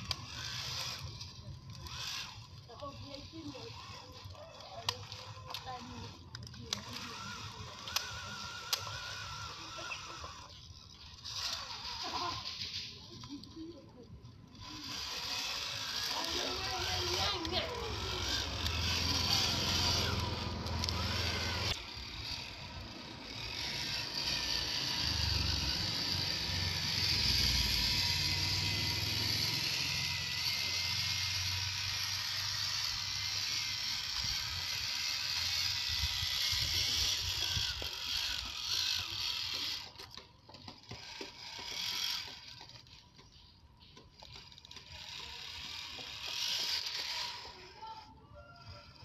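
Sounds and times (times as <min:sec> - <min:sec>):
gear chatter: 0:00.0 - 0:49.0
toy truck motor whining: 0:00.0 - 0:49.0.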